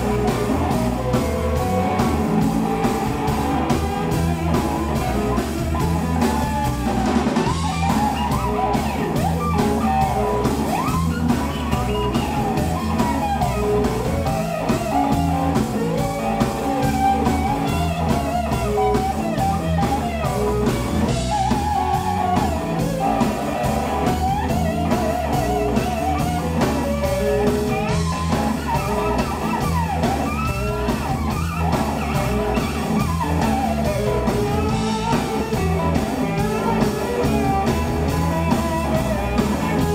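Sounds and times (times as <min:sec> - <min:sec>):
blues band playing: 0:00.0 - 0:39.9
lead guitar bent notes: 0:00.0 - 0:39.9.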